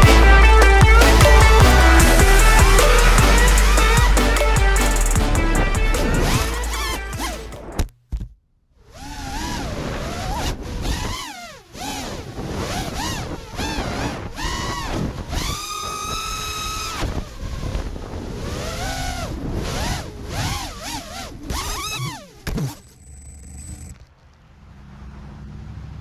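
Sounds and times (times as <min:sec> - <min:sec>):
drone motors whining: 0:00.0 - 0:07.8, 0:08.8 - 0:24.4.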